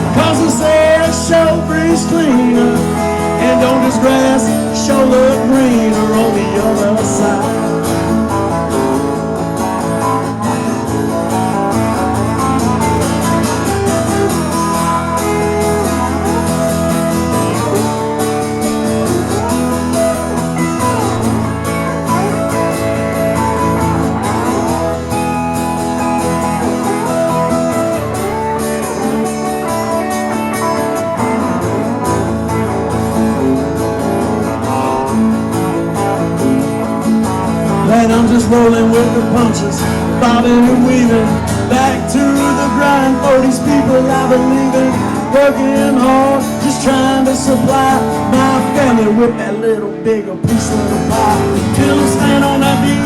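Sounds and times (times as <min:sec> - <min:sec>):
country guitar instrumental: 0:00.0 - 0:53.0.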